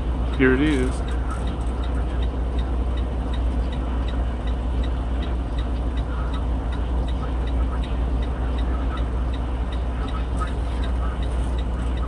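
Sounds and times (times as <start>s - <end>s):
car road and engine noise: 0.0s - 12.0s
constant low hum: 0.0s - 12.0s.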